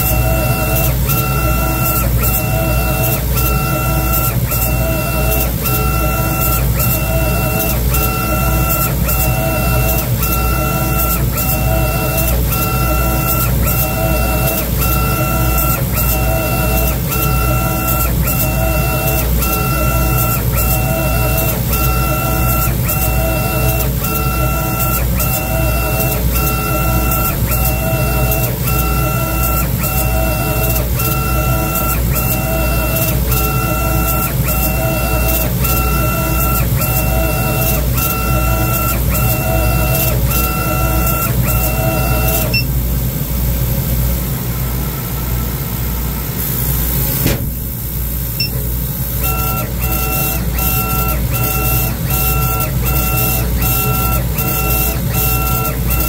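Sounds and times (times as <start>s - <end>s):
laser cutter motor whine: 0.0s - 56.0s.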